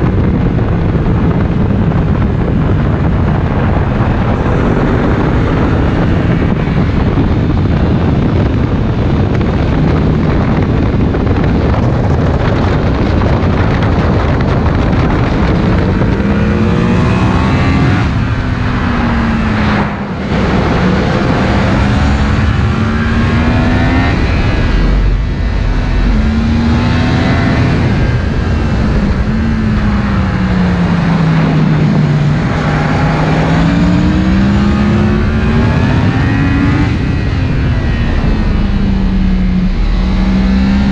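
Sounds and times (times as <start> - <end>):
motorcycle engine revving: 0.0 - 40.9
wind on microphone: 0.0 - 40.9.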